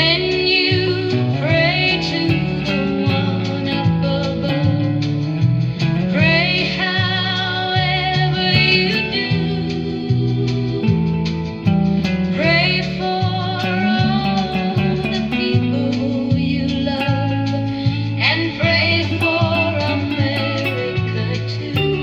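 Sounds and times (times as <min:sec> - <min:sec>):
country music with singing: 0:00.0 - 0:22.0.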